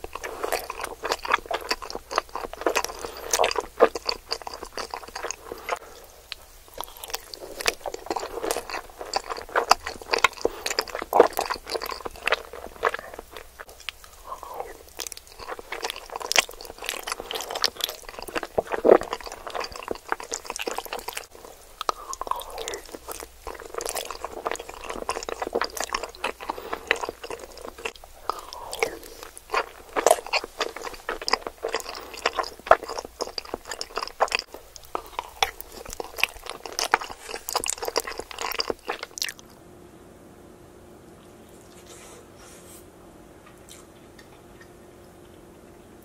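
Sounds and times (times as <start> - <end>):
close chewing mouth sounds: 0.0 - 39.6.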